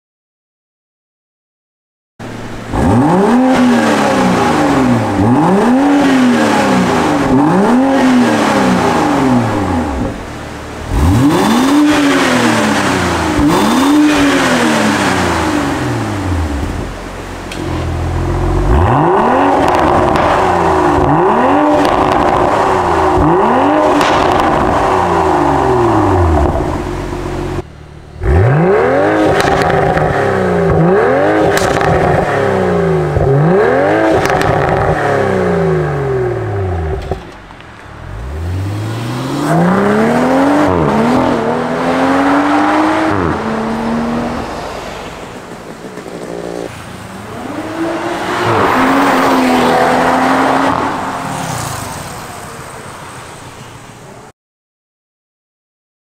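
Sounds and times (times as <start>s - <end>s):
car engine revving: 2.2s - 53.4s.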